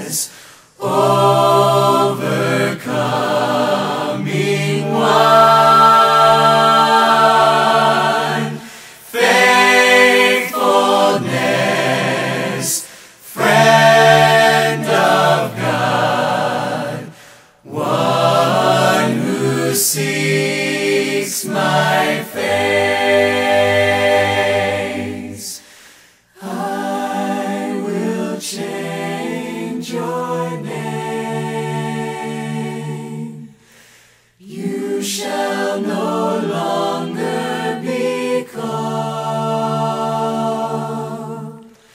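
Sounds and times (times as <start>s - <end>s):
voices singing a worship song: 0.0s - 41.9s.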